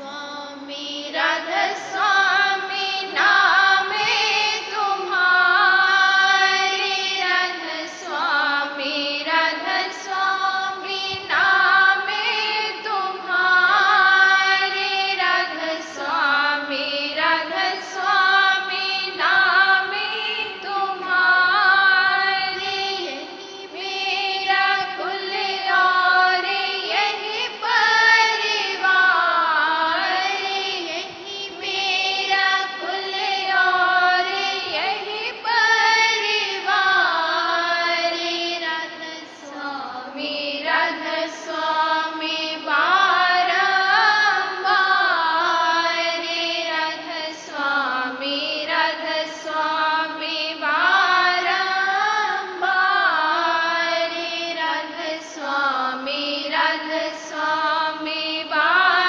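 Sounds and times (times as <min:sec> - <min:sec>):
voices singing devotional hymn: 0:00.0 - 0:59.0.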